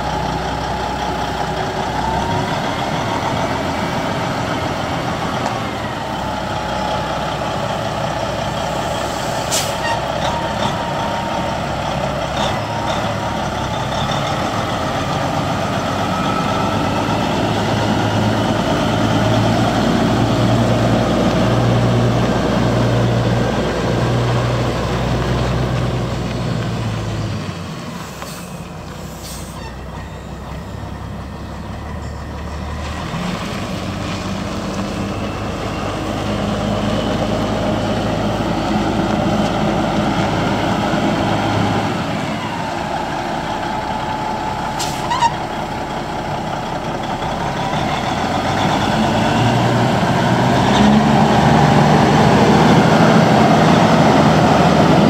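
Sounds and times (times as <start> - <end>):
diesel truck engine: 0.0 - 55.0.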